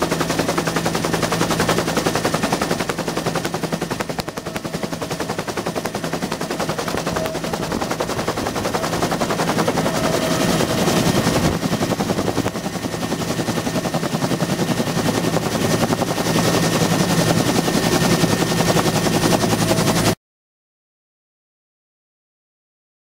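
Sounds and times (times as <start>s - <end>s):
aircraft with pulsing beat: 0.0s - 20.2s.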